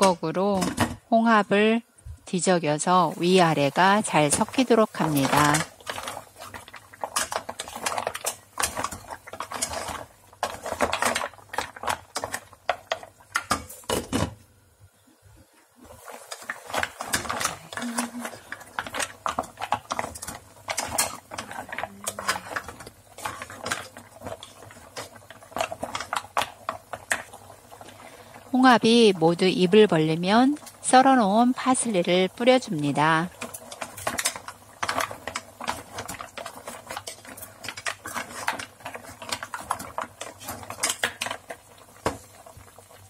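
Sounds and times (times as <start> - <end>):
mussel shells clattering in pot: 3.0 - 14.4, 16.0 - 43.0.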